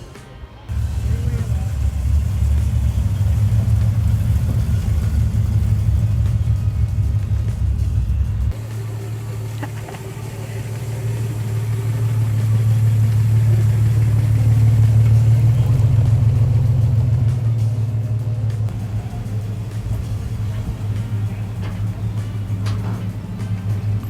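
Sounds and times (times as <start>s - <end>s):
car engine rumble: 0.6s - 24.0s.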